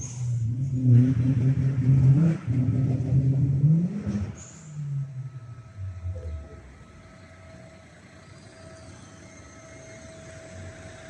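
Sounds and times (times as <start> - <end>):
car engine rumble with whine: 0.0 - 11.0.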